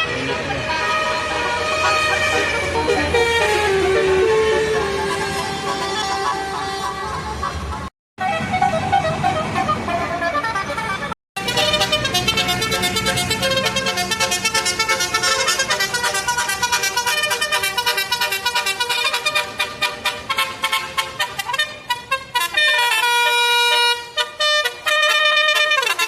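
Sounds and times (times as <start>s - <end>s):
multi-tone bus air horns: 0.0s - 26.0s.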